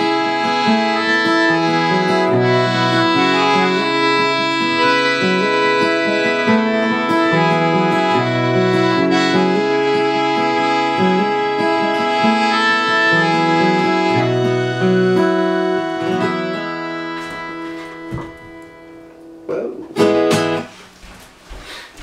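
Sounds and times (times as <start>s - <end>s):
accordion playing chords: 0.0s - 19.4s
acoustic guitar picked: 0.0s - 22.0s.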